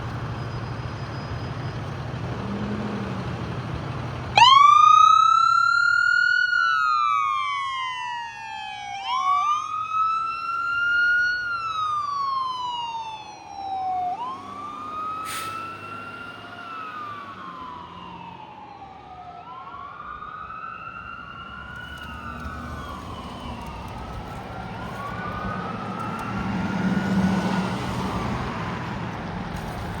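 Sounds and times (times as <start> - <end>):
traffic rumble: 0.0 - 30.0
emergency sirens wailing: 2.0 - 30.0.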